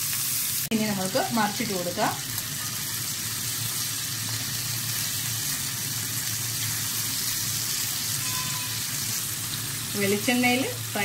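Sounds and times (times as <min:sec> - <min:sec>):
prawns sizzling in oil: 0:00.0 - 0:11.0.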